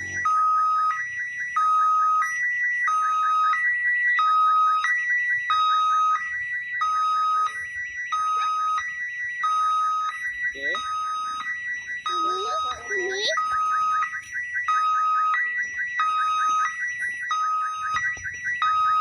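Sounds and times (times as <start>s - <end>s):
level crossing alarm two-tone warble: 0.0s - 19.0s.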